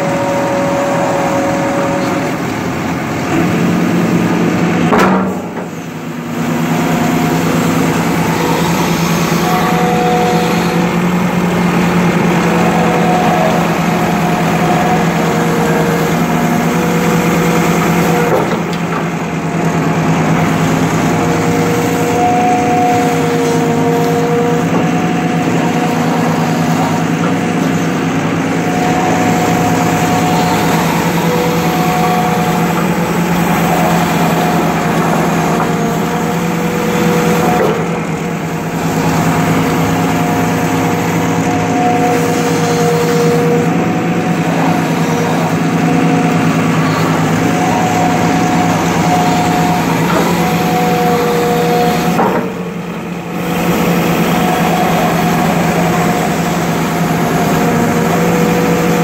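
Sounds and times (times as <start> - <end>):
excavator engine running: 0.0 - 59.0
hydraulic whine: 0.0 - 59.0.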